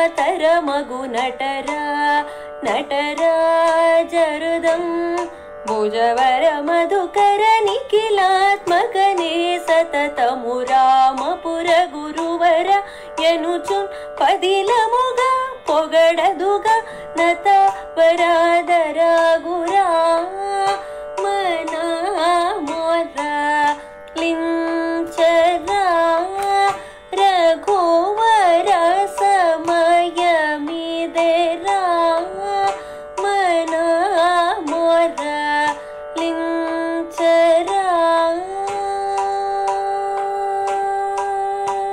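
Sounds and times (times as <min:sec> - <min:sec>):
person singing ornamented melody: 0:00.0 - 0:41.9.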